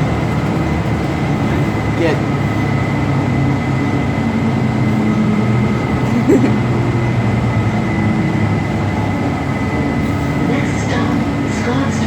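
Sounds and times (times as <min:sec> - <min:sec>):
transit vehicle running rumble: 0:00.0 - 0:12.0.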